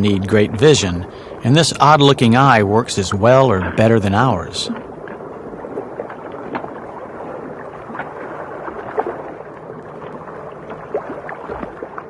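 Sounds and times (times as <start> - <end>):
bubbling: 0.0 - 12.0
underwater watery rush: 0.0 - 12.0.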